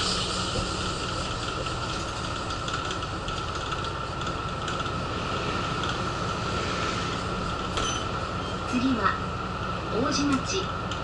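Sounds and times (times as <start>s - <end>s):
bus engine and road hum: 0.0s - 11.0s.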